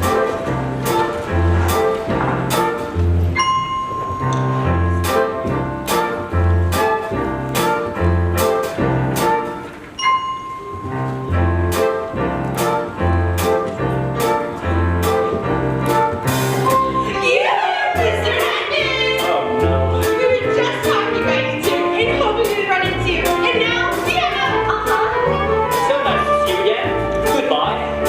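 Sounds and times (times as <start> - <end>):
bass notes: 0.0 - 3.5, 4.1 - 9.6, 10.8 - 28.0
piano: 0.0 - 28.0.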